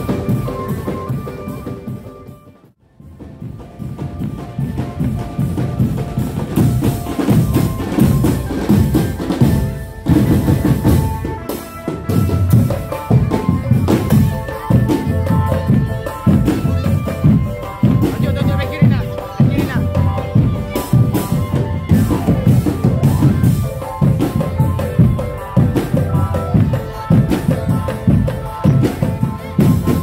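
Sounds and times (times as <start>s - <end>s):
drum band music: 0.0s - 30.0s.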